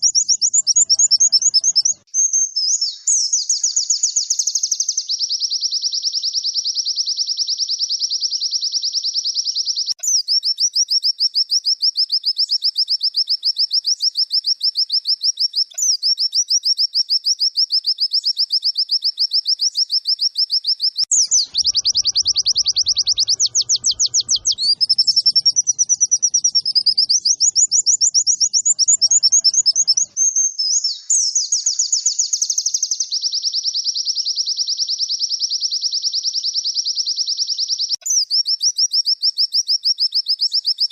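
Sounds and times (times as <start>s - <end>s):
bird trilling song: 0.0s - 40.9s.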